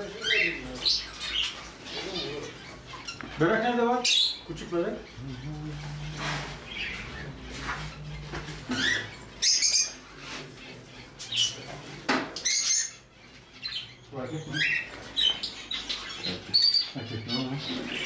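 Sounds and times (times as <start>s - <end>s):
parrots chirping: 0.0s - 18.0s.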